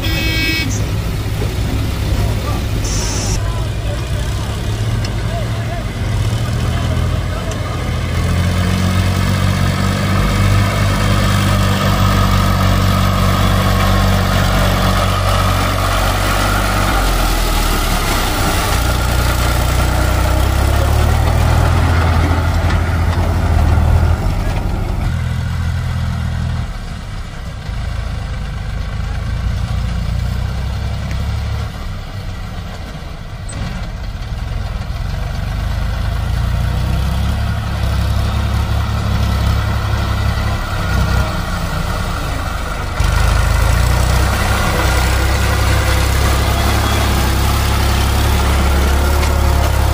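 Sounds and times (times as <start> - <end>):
backhoe loader engine running: 0.0 - 49.9
diesel tractor engine running: 0.0 - 49.9.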